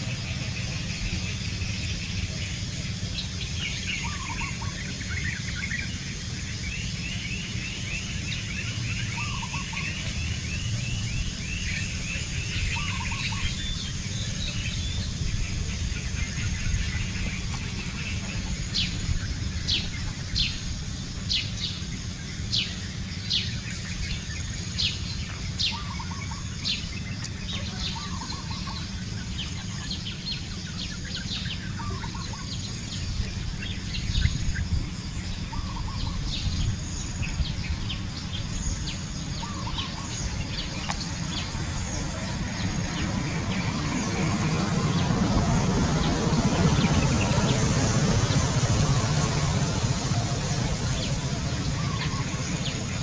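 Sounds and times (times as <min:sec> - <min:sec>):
birds calling: 0:00.0 - 0:53.0
steady low rumble: 0:00.0 - 0:53.0.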